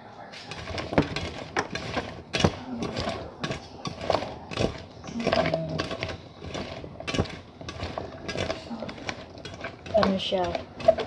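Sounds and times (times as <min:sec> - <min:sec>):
potato slices clattering in metal pot: 0:00.5 - 0:11.0.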